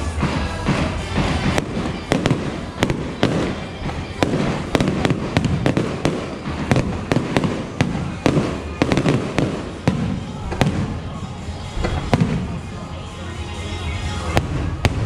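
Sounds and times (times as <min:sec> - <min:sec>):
fireworks bursting with bangs: 0:00.0 - 0:13.1, 0:13.8 - 0:15.0
fireworks crackle: 0:00.0 - 0:15.0.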